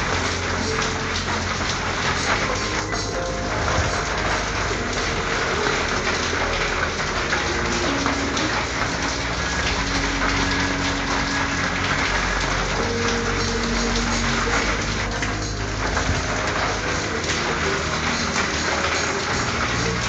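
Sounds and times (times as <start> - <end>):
rain on a tin roof: 0.0 - 20.0.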